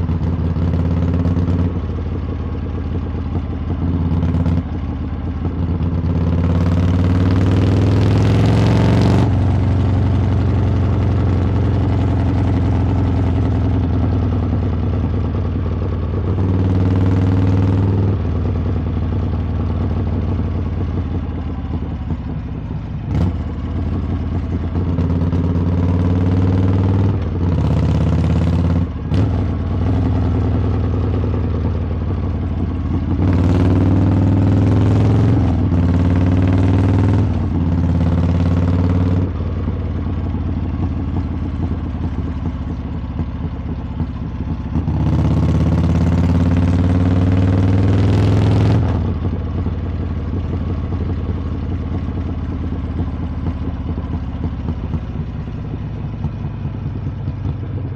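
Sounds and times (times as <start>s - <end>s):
motorcycle exhaust revving: 0.0s - 57.9s.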